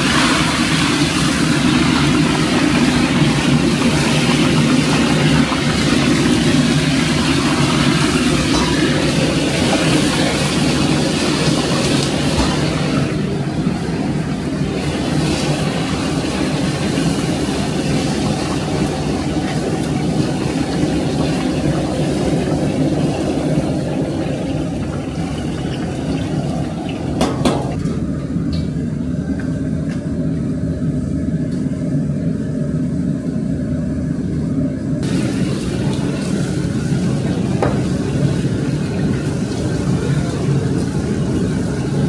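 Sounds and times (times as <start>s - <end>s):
low mechanical roar: 0.0s - 42.0s.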